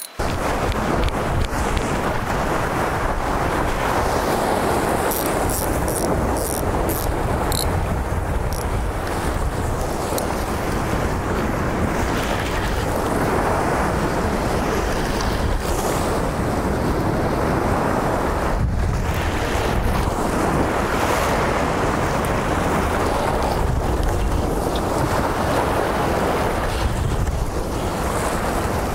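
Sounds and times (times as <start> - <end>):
surf washing against rocks: 0.0 - 28.9
wind buffeting microphone: 0.0 - 28.9.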